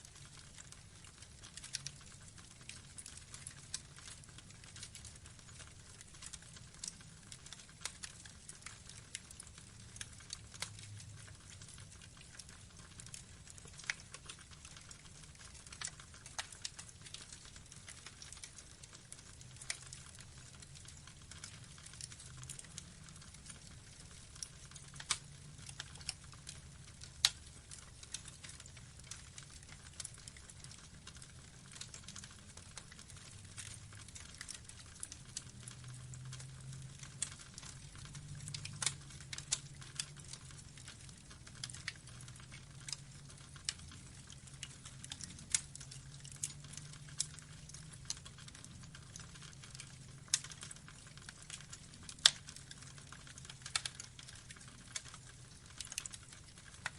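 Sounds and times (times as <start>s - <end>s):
wood fire crackling and popping: 0.0s - 56.9s
low rumble of flames: 0.1s - 56.9s.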